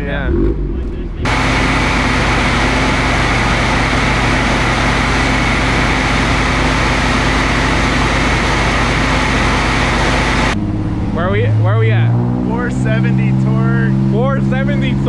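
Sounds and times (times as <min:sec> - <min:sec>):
car engine droning on dyno: 0:00.0 - 0:15.0.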